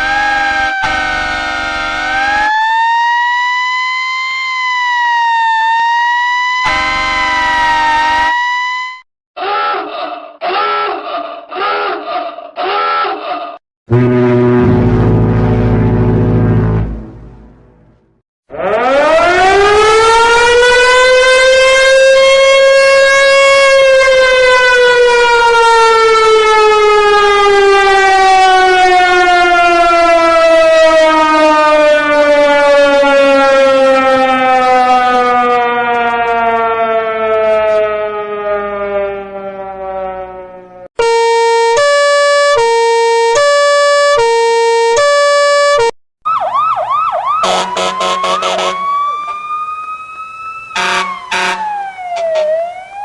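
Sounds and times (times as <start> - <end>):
civil defence siren winding: 0.0 - 9.0, 18.6 - 53.0
two-tone siren: 0.0 - 9.0, 13.9 - 17.0, 18.5 - 53.0.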